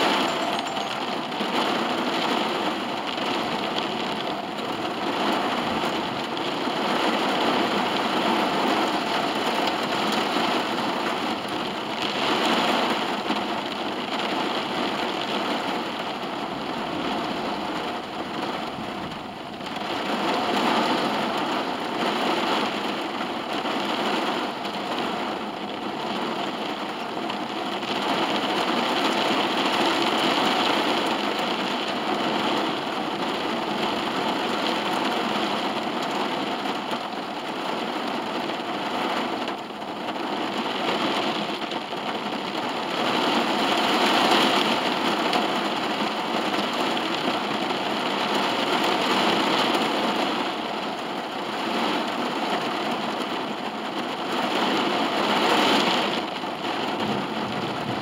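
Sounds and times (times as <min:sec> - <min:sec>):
heavy rain on a car roof: 0:00.0 - 0:58.0.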